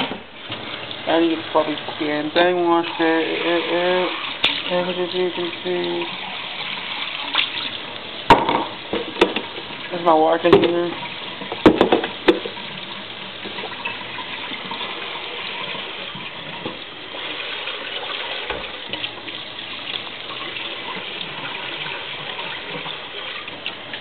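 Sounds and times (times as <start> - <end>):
tap water running into sink: 0.0 - 24.0.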